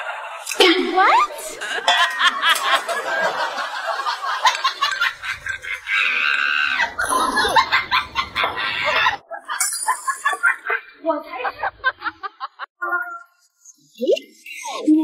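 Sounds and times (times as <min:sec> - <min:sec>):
women laughing and giggling: 0:00.0 - 0:12.7.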